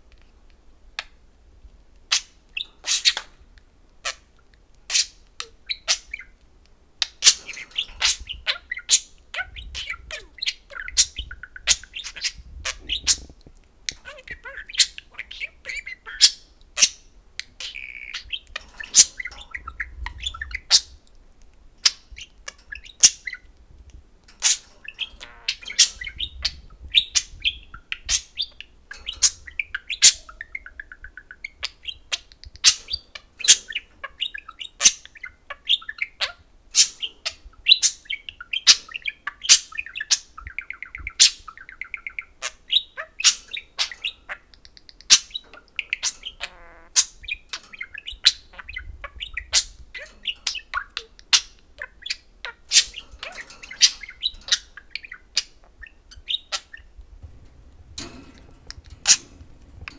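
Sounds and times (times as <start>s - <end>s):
budgerigars chirping and warbling: 2.1s - 3.4s, 4.0s - 6.4s, 7.0s - 21.0s, 21.8s - 23.6s, 24.3s - 59.9s.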